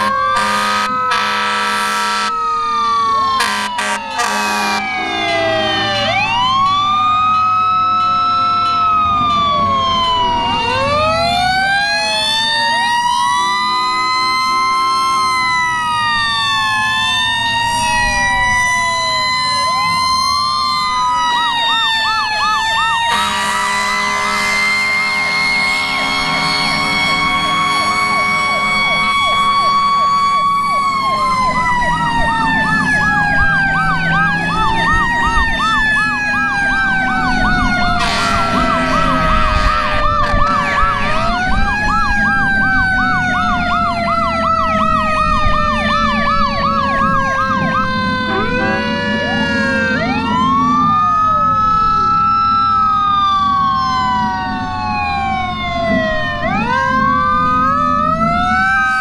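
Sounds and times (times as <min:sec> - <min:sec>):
fast yelping siren: 0:00.0 - 0:59.0
fire engine sirens wailing: 0:00.0 - 0:59.0.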